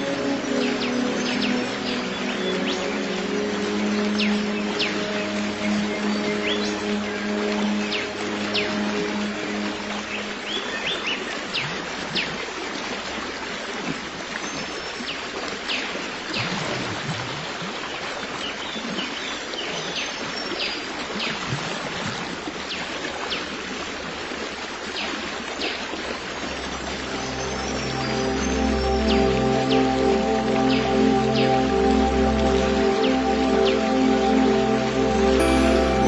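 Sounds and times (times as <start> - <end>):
stream of running water: 0.0 - 36.0.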